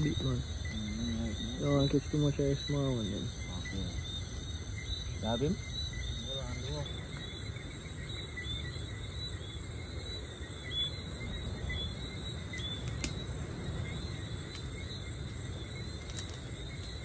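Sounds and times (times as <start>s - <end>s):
high chirps of night insects: 0.0s - 17.0s.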